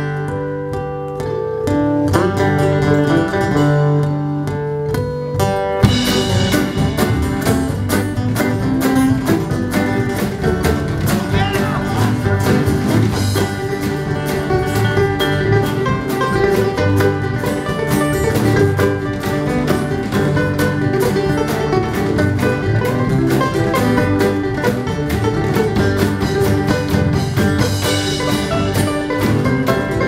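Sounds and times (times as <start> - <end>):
acoustic string band playing bluegrass: 0.0 - 30.0.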